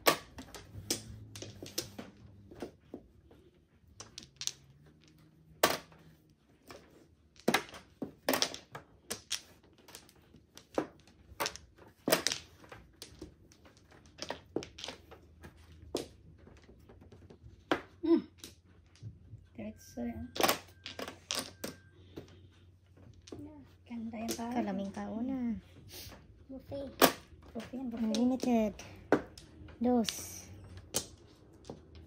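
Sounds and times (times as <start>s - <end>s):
mahjong tiles clacking: 0.0s - 32.0s.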